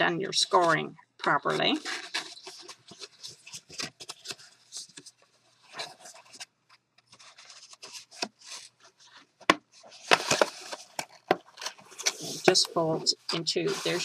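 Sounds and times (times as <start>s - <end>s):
paper crinkling while folded: 0.4s - 12.8s.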